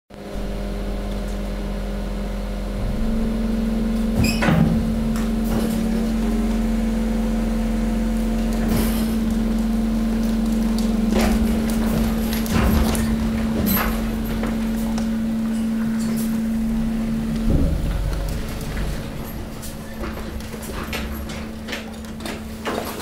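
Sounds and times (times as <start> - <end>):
compactor motor and pump hum: 0.2 - 23.0.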